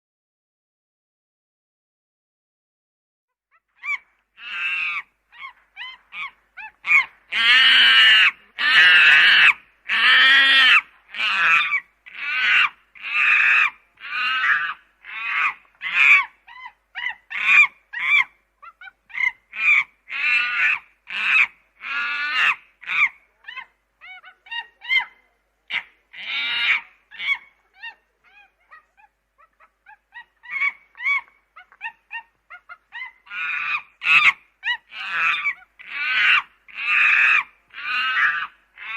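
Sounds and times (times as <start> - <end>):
chimpanzee calling: 3.5 - 38.9.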